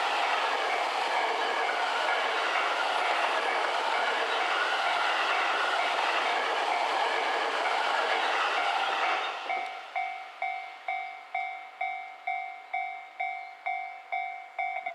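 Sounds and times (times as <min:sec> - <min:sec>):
level-crossing warning bell: 0:00.0 - 0:14.9.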